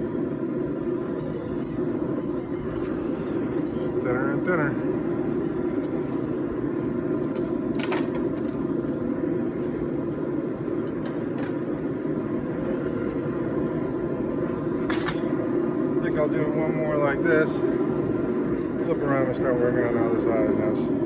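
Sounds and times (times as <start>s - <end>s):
forge rushing hum: 0.0s - 21.0s.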